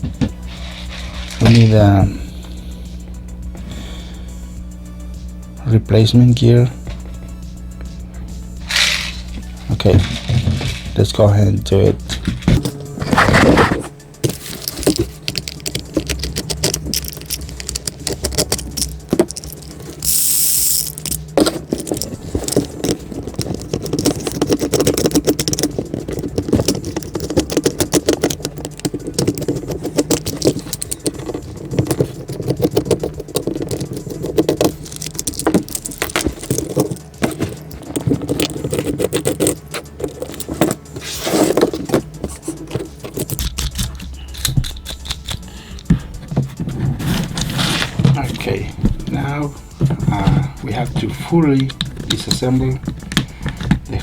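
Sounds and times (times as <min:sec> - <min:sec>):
plastic parts and screws rattling: 0:00.0 - 0:02.2, 0:08.6 - 0:54.0.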